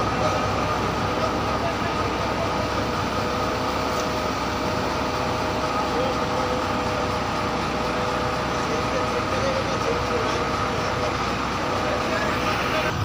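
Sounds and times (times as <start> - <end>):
steady engine whine: 0.0 - 13.0
trailer engine rumbling under load: 0.0 - 13.0.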